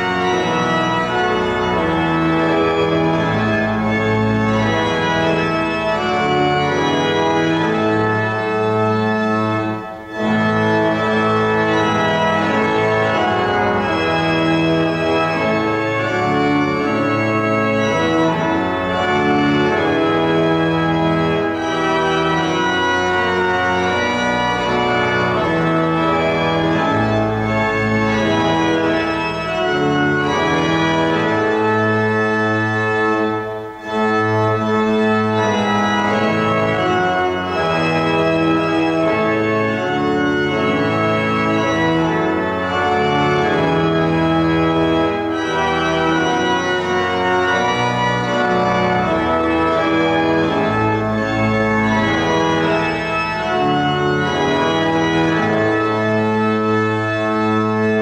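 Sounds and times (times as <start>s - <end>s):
church organ playing chords: 0.0s - 58.0s.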